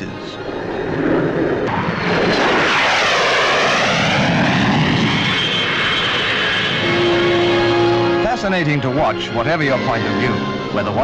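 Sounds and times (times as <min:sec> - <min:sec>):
jet fighter flying past: 0:00.0 - 0:11.0.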